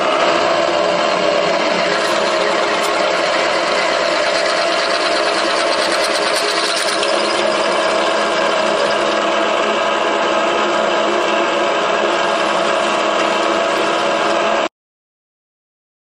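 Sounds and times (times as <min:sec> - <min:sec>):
drill bit cutting steel: 0:00.0 - 0:14.6
drill press humming: 0:00.0 - 0:14.7.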